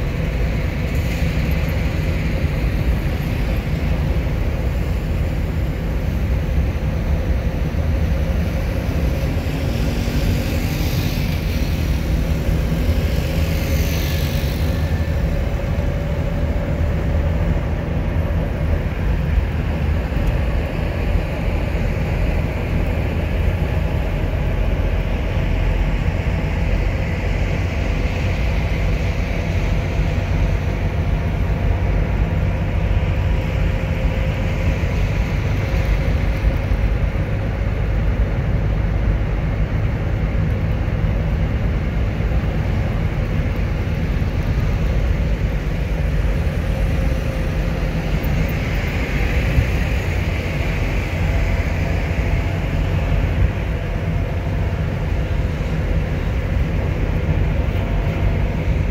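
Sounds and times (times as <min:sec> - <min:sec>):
car engine and tyre rumble: 0:00.0 - 0:58.9.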